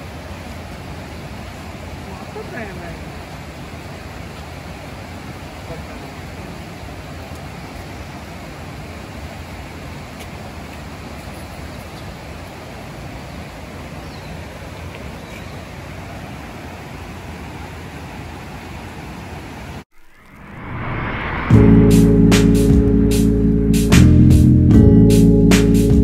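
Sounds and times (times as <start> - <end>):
rushing mountain stream: 0.0 - 20.8.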